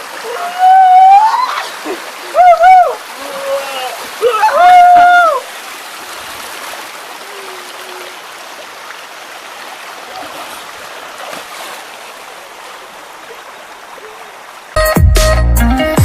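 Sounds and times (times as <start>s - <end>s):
water rushing over rocks: 0.0s - 14.8s.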